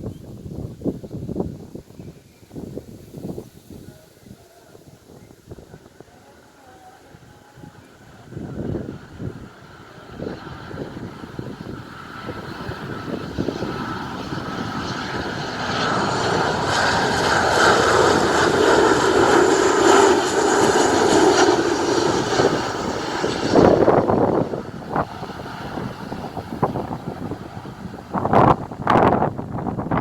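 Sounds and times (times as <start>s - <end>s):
airliner passing overhead: 0.0s - 30.0s
wind buffeting microphone: 0.0s - 30.0s.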